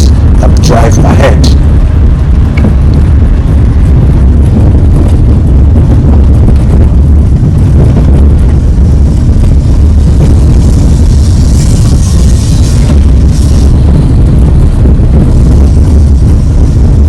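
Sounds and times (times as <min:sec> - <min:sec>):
car driving on dirt road: 0:00.0 - 0:17.0.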